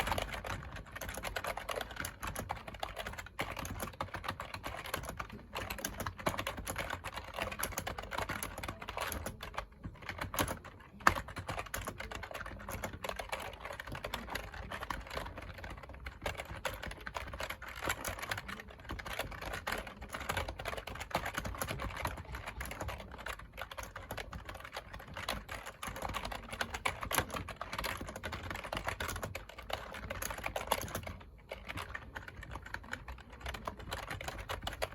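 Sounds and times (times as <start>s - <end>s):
fast typing on keyboard: 0.0s - 34.9s.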